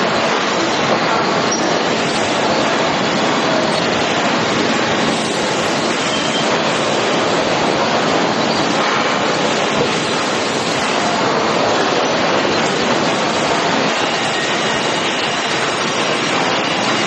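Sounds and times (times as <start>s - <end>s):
sawmill machinery din: 0.0s - 17.0s.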